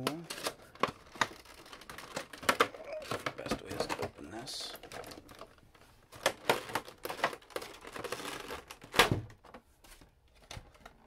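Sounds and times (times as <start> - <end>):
packaging crinkling and scraping: 0.0 - 11.0.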